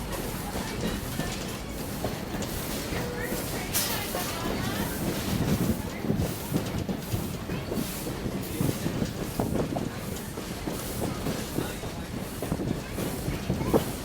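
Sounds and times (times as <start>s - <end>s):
train car rumble and rattle: 0.0s - 14.0s
wheels clicking on rails: 0.0s - 14.0s.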